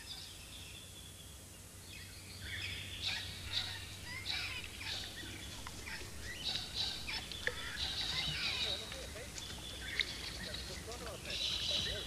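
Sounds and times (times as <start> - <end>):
birds chirping and whistling: 0.0 - 12.0
low steady hum: 0.0 - 12.0.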